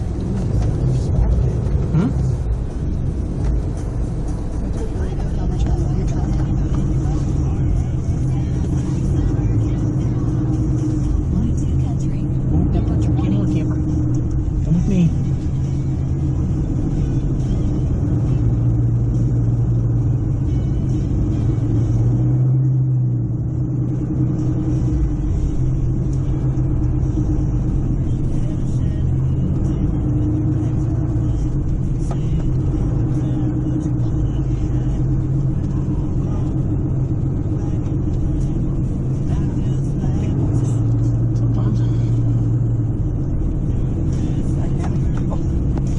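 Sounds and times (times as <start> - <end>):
vehicle engine running: 0.0 - 45.9.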